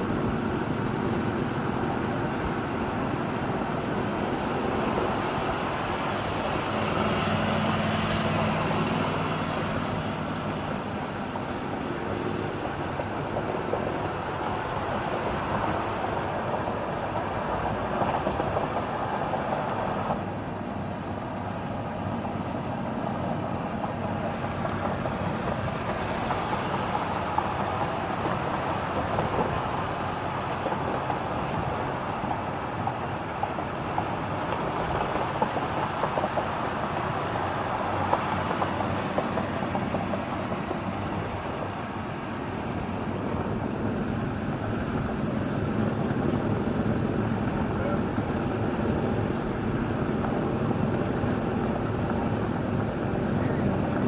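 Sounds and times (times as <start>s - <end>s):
motorcycles and highway traffic: 0.0s - 54.0s.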